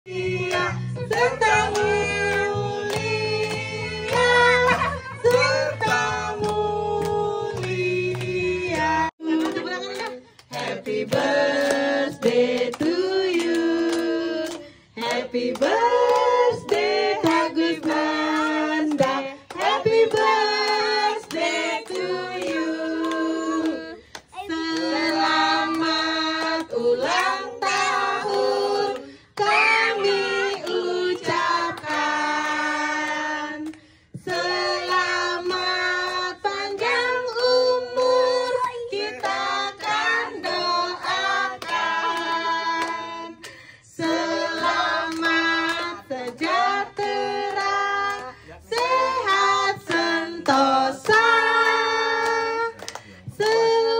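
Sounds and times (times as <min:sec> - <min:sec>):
hand clapping: 0:00.4 - 0:53.9.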